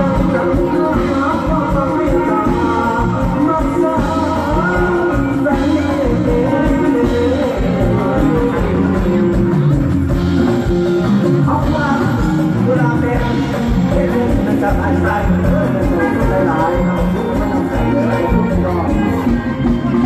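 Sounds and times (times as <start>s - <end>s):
live band music: 0.0s - 20.0s
person singing: 0.0s - 20.0s
steady drum beat: 0.0s - 20.0s.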